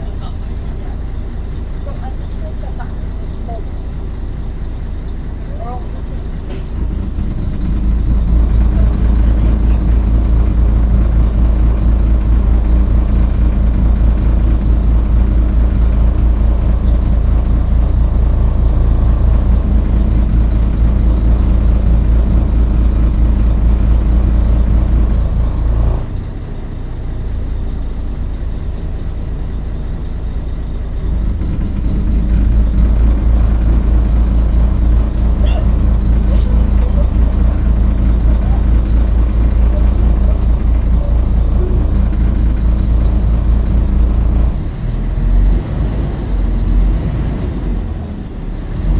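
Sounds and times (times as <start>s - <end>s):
diesel bus engine running: 0.0s - 48.9s.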